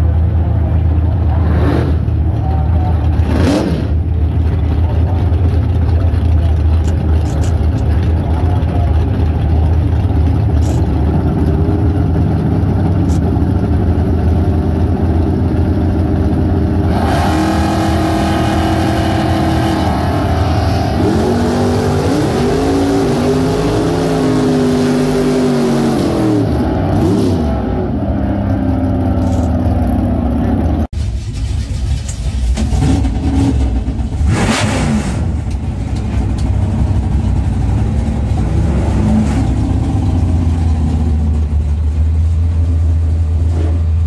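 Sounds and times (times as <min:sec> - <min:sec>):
engines idling and revving: 0:00.0 - 0:44.0.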